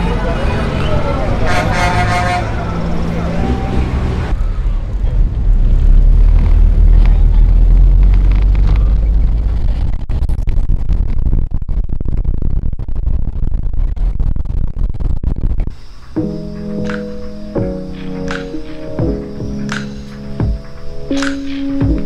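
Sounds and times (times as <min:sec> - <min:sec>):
car road and wind noise: 0:00.0 - 0:21.8.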